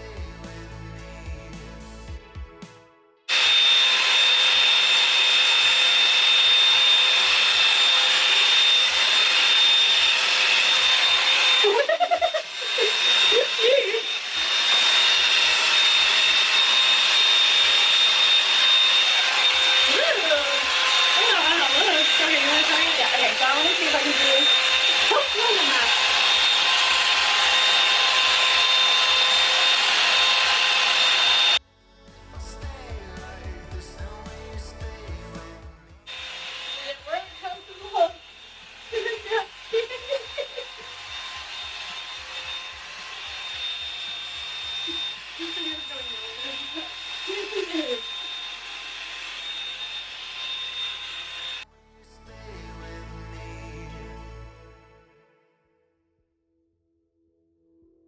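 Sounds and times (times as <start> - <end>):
hot-air brush whirring: 3.3 - 31.6, 32.7 - 51.7.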